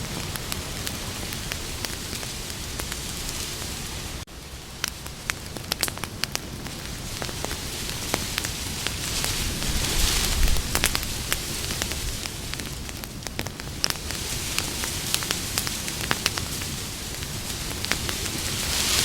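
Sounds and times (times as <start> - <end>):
campfire crackling and popping: 0.0 - 19.0
rush of flame: 0.0 - 19.0.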